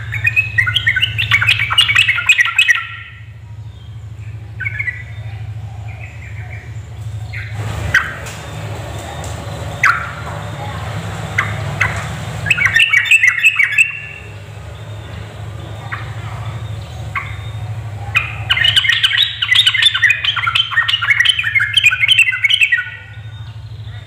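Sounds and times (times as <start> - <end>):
bulbul chattering: 0.0 - 24.0
low steady hum: 0.0 - 24.0.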